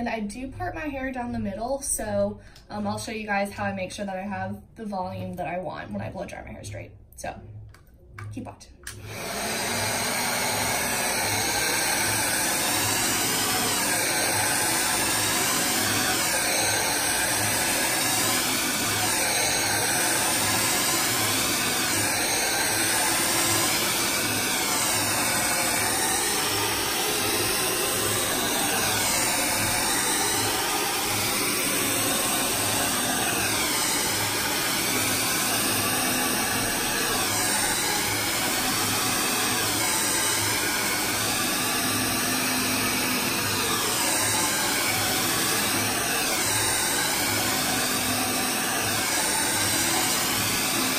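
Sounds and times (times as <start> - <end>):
hair dryer running: 8.9 - 50.9.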